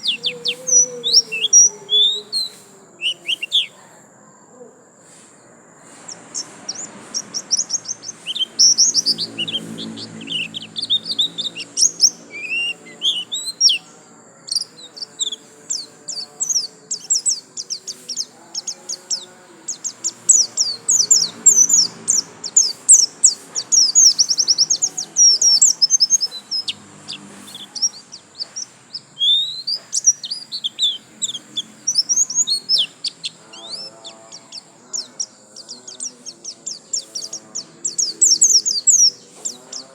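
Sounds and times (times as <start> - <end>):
bird singing high chirps: 0.0 - 3.9, 5.8 - 39.9.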